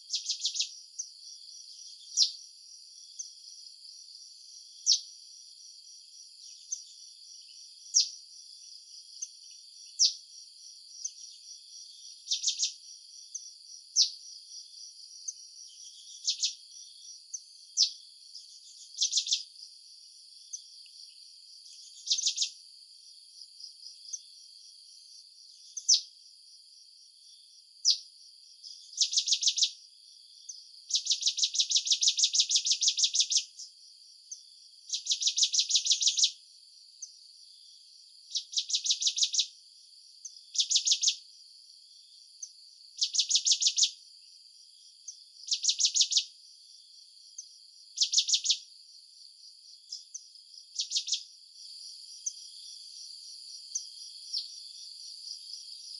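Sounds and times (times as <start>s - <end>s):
high insect drone: 0.0s - 55.9s
insects pulsed trills: 0.0s - 55.9s.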